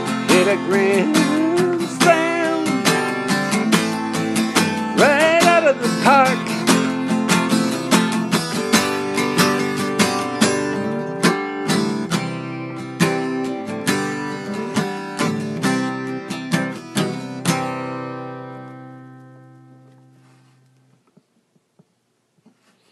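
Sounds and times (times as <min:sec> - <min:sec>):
acoustic guitar strumming: 0:00.0 - 0:20.7.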